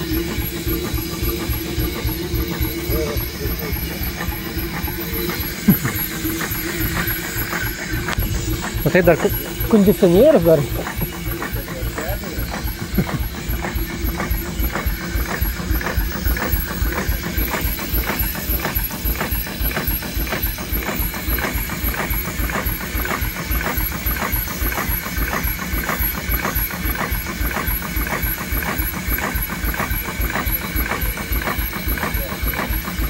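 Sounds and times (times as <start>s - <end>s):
steam engine rhythmic clatter: 0.0s - 33.0s.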